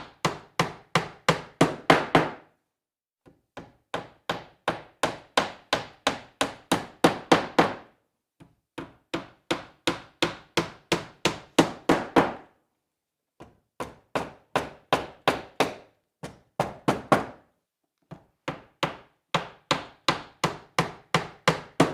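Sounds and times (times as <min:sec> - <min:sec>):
hammer striking nail into wood: 0:00.0 - 0:02.5, 0:03.2 - 0:12.5, 0:13.4 - 0:17.5, 0:18.1 - 0:21.9.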